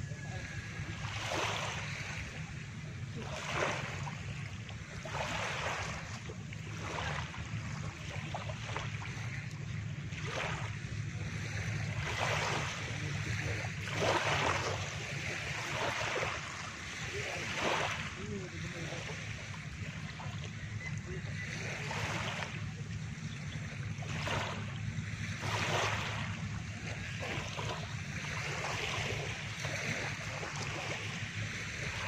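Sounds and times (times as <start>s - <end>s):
small waves breaking on beach: 0.0s - 32.0s.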